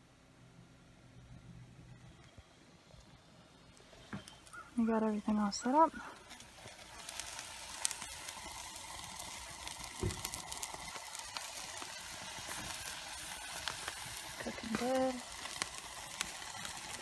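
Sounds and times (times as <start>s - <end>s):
burning wood crackling: 0.9s - 17.0s
food sizzling: 2.8s - 17.0s.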